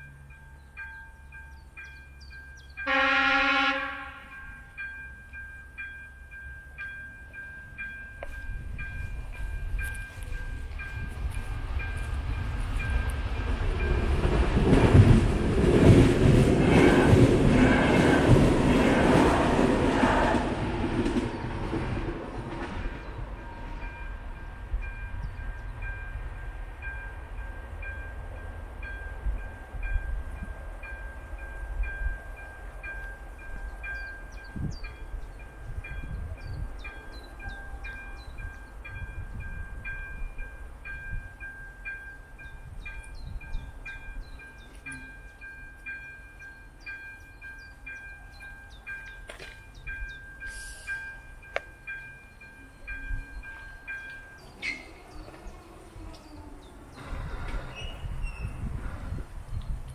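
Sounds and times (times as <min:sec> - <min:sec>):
level crossing warning bell: 0:00.0 - 0:15.3, 0:23.0 - 0:56.7.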